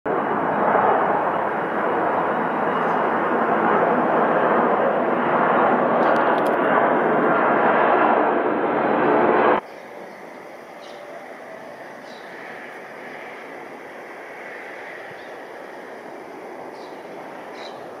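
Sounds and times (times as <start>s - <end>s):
jet engines flying overhead: 0.1s - 18.0s.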